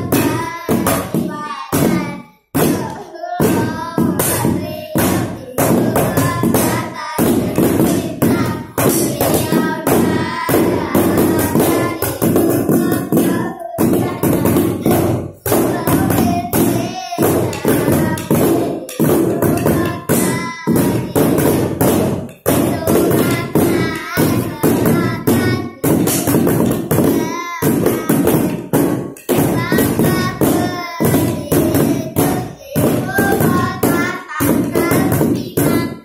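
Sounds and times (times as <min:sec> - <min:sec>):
girls singing: 0:00.0 - 0:36.0
sticks beating improvised drums: 0:00.0 - 0:36.0.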